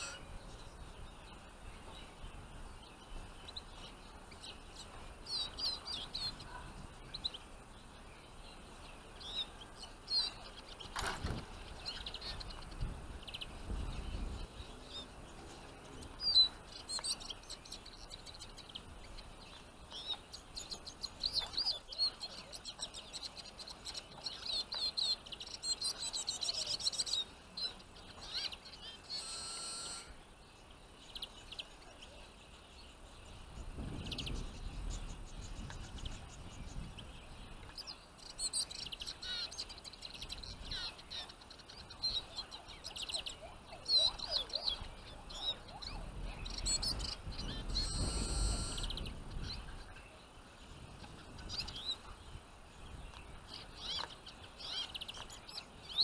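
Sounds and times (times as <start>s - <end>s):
finches chirping and twittering: 0.0s - 56.0s.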